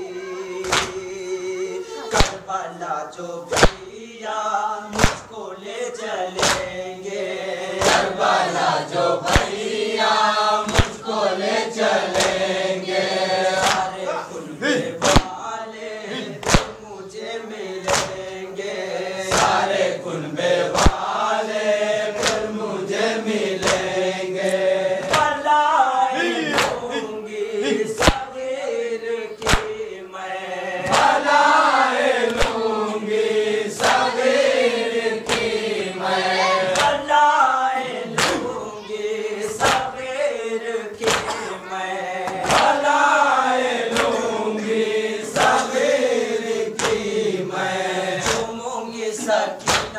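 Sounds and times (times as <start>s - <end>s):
men chanting a lament: 0.0s - 49.9s.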